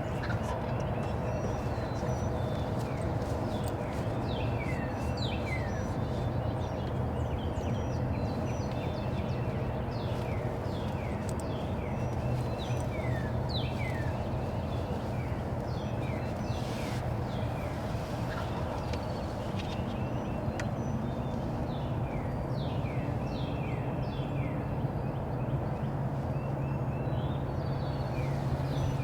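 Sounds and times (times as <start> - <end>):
songbirds whistling: 0.0 - 24.3
low background rumble: 0.0 - 29.0.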